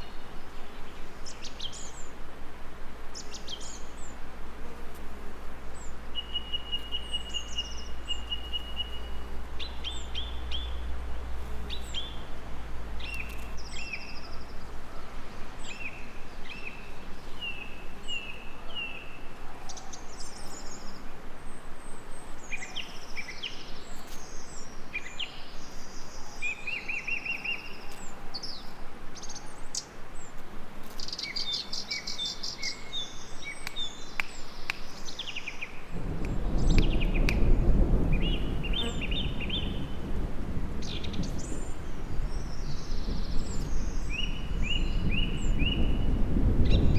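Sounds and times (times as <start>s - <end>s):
songbirds chirping and trilling: 0.0s - 2.3s, 3.1s - 46.9s
steady background hiss: 0.0s - 46.9s.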